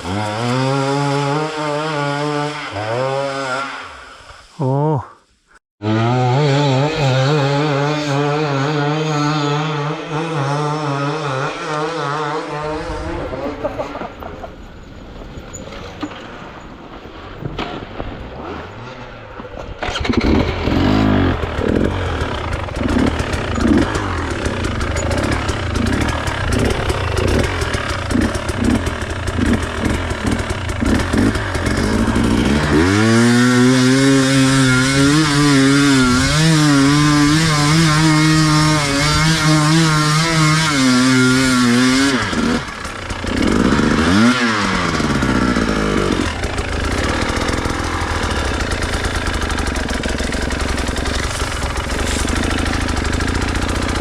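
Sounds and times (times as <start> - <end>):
dirt bike engine revving: 0.0 - 4.4, 5.8 - 14.9, 18.2 - 54.0.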